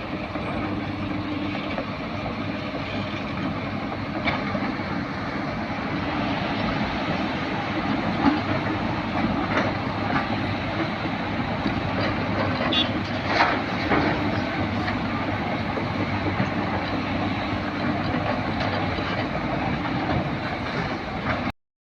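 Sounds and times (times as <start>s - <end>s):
excavator diesel engine: 0.0s - 21.6s.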